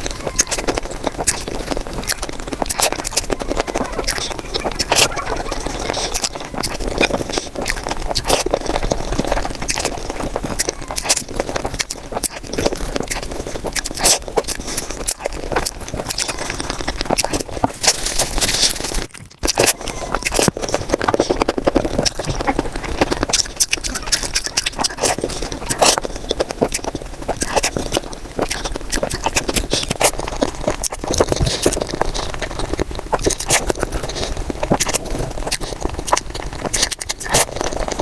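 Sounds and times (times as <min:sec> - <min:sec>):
person chewing with mouth clicks: 0:00.0 - 0:38.0.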